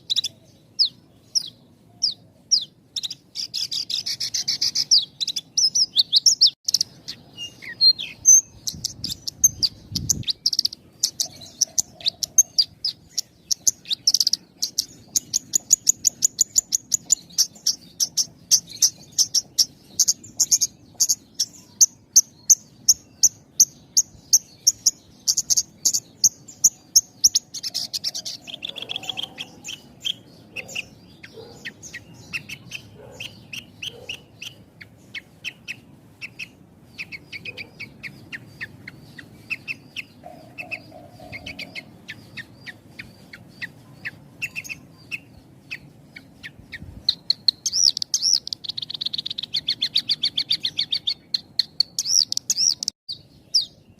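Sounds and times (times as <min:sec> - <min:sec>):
bush lark singing: 0:00.0 - 0:53.9.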